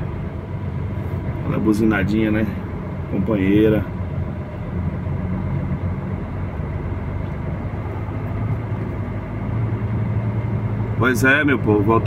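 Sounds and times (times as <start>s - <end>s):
diesel truck engine droning: 0.0s - 12.0s.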